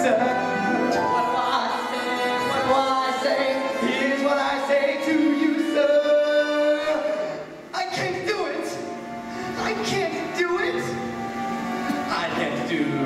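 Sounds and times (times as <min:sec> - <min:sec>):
show tune accompaniment music: 0:00.0 - 0:13.0.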